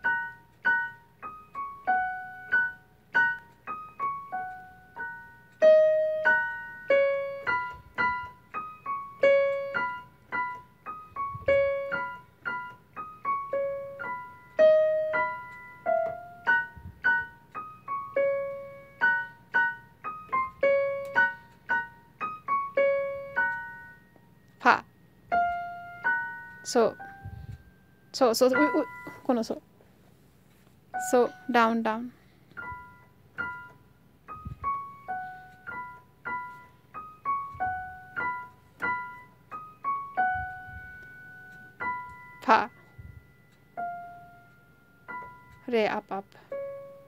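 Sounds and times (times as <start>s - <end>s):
digital piano melody: 0.0s - 29.8s, 30.8s - 47.0s.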